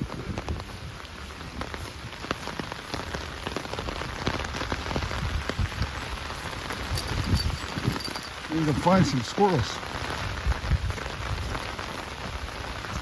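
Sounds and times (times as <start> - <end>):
raindrops ticking close by: 0.0 - 13.0
steady rain falling: 0.0 - 13.0.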